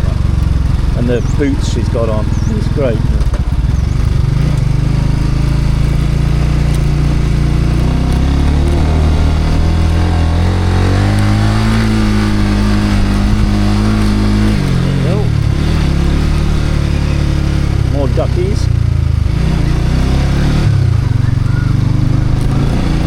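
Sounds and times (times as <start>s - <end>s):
motorbike engine running: 0.0s - 23.0s.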